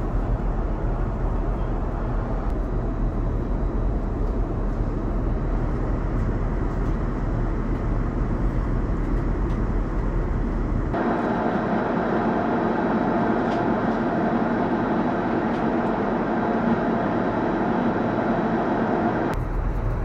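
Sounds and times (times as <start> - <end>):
airliner cabin noise: 0.0 - 20.0.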